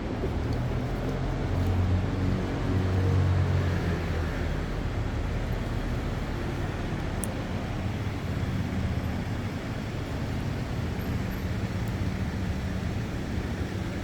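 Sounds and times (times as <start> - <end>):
passing vehicle engine rumble: 0.0 - 14.0
road noise: 0.0 - 14.0.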